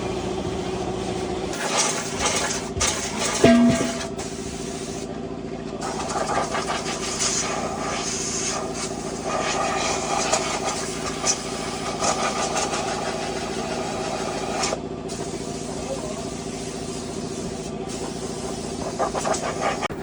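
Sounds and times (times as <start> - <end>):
hiss: 1.5 - 3.4, 4.2 - 5.1, 5.8 - 20.0.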